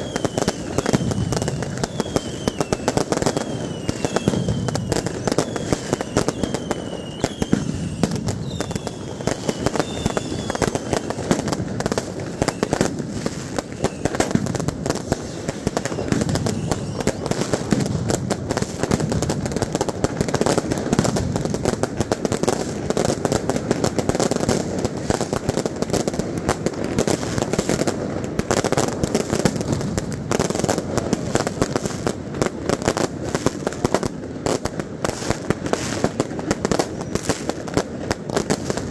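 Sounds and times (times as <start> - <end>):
fireworks bangs and crackles: 0.0 - 38.9
whistling fireworks: 0.0 - 38.9.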